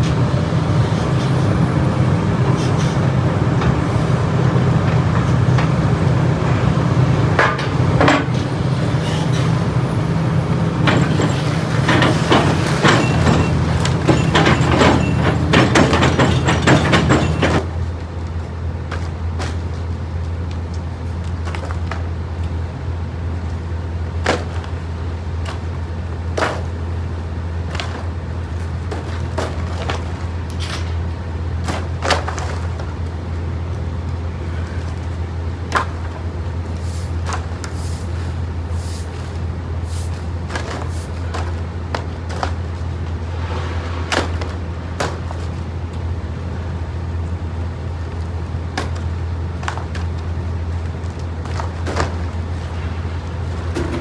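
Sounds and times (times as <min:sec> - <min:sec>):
loud busy noise: 0:00.0 - 0:54.0
truck engine humming: 0:00.0 - 0:54.0.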